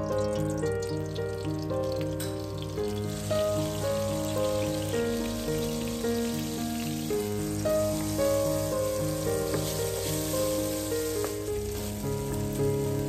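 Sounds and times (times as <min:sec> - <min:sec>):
background music: 0:00.0 - 0:13.0
oil sizzling in a frying pan: 0:00.0 - 0:13.0.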